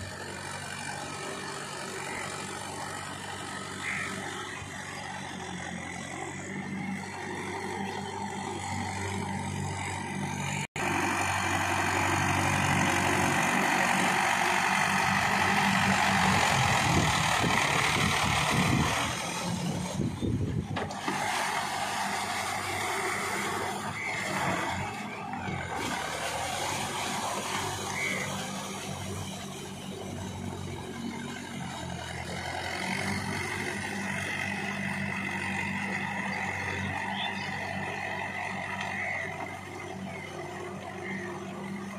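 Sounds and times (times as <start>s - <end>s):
tractor diesel engine under load: 0.0s - 41.9s
rotavator churning wet mud: 6.8s - 41.9s.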